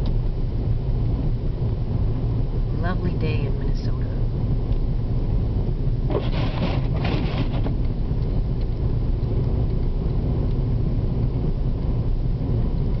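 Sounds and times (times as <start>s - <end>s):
car engine and tyres on snow: 0.0s - 13.0s.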